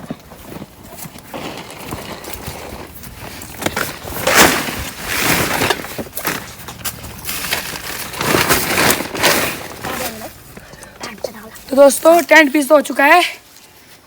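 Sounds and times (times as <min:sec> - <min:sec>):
tent rain cover rustling: 0:00.0 - 0:10.6, 0:11.3 - 0:14.0.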